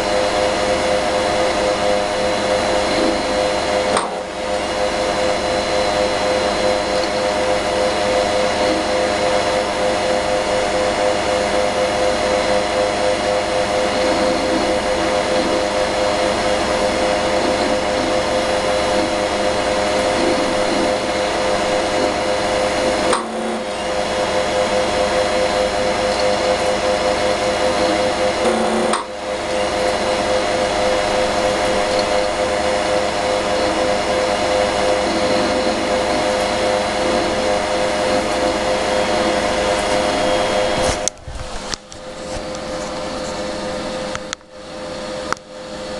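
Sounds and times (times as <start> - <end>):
computer whirring and humming: 0.0 - 45.9.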